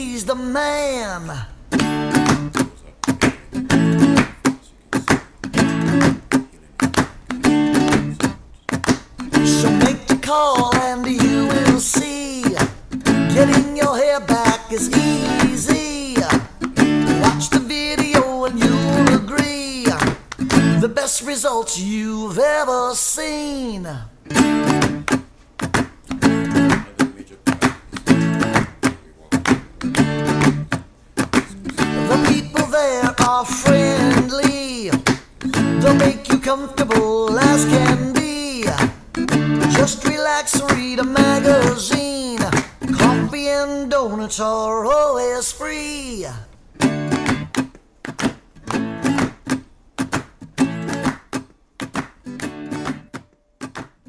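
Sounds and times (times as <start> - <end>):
acoustic guitar strumming chords: 1.7 - 21.5, 24.2 - 46.2, 46.8 - 53.8.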